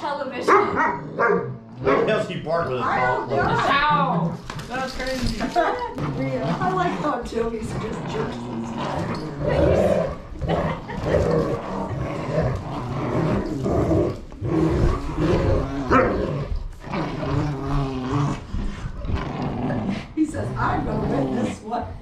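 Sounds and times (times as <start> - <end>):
dogs play growling: 0.3 - 22.0.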